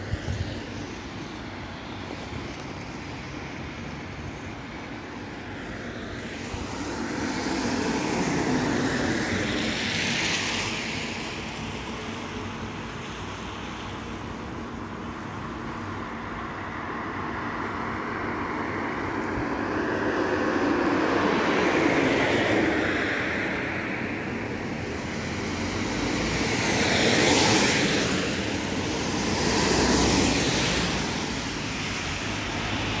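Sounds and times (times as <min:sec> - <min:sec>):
cars passing on wet road: 0:00.0 - 0:33.0
steady traffic hum: 0:00.0 - 0:33.0.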